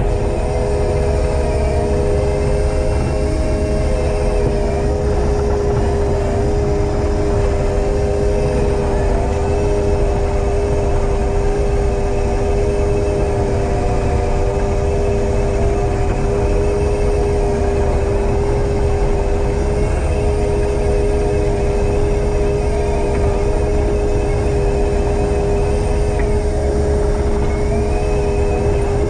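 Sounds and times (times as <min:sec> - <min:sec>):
heavy diesel machine running: 0:00.0 - 0:29.0.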